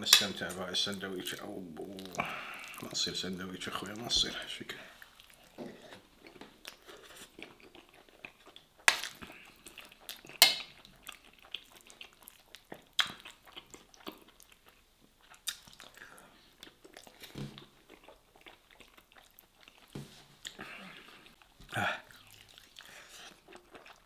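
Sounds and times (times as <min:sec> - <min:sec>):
wet chewing and lip noises: 0:00.5 - 0:03.1, 0:05.0 - 0:24.0.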